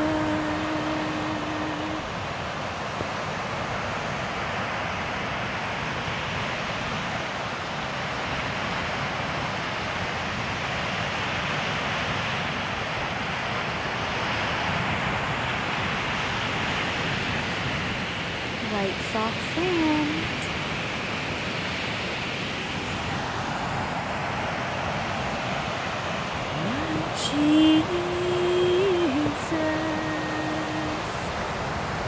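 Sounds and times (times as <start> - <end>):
ocean surf breaking on shore: 0.0 - 32.0.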